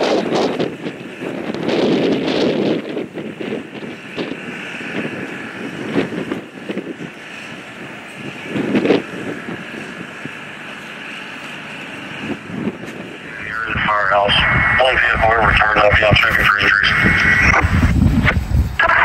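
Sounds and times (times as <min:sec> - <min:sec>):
vehicle noise hum: 0:00.0 - 0:19.0
wind buffeting microphone: 0:00.0 - 0:19.0.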